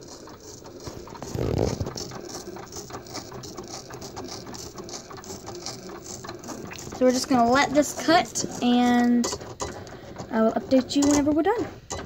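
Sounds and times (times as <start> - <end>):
cutting machine motors ticking: 0.0 - 12.0.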